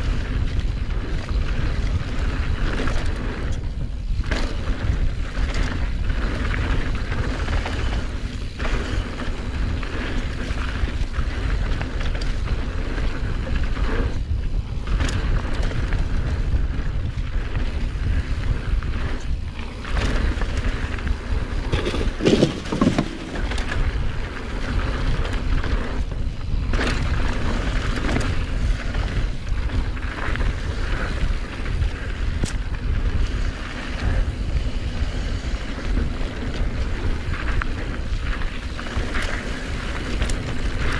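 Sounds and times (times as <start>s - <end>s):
bike jolt: 0.0s - 40.9s
bike tyres rumbling on dirt: 0.0s - 40.9s
wind buffeting microphone: 0.0s - 40.9s.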